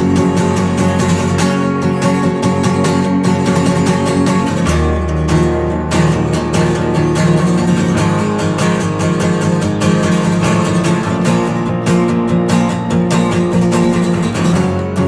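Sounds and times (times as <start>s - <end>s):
strummed acoustic guitar music: 0.0s - 15.0s.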